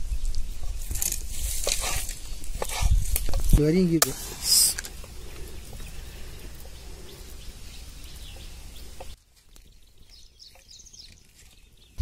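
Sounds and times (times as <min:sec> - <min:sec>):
fronds and twigs crackling in fire: 0:00.0 - 0:12.0
birds chirping: 0:01.6 - 0:12.0.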